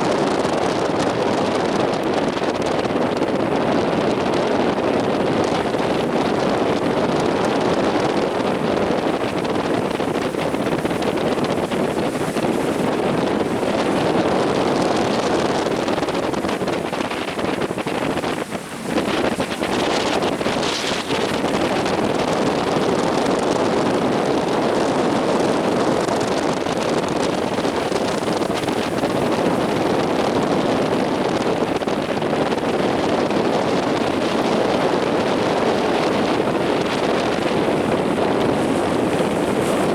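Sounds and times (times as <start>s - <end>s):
big waves breaking: 0.0s - 39.9s
wind buffeting microphone: 0.0s - 39.9s.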